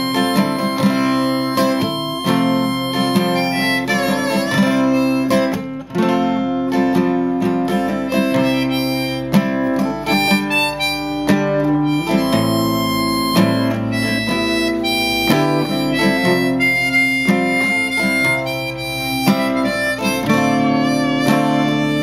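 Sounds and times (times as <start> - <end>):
acoustic guitar strummed and picked: 0.0 - 22.0
harmonica melody: 0.0 - 22.0.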